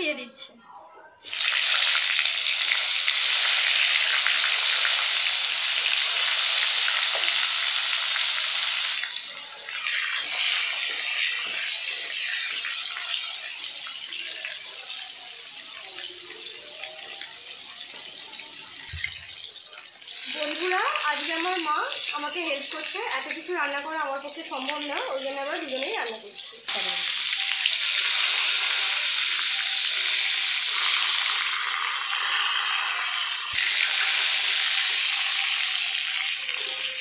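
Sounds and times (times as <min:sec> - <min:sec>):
food sizzling in hot oil: 0:01.2 - 0:37.0.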